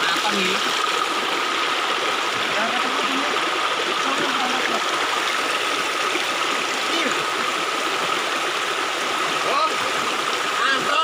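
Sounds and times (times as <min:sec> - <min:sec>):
creek running over stones: 0:00.0 - 0:11.0.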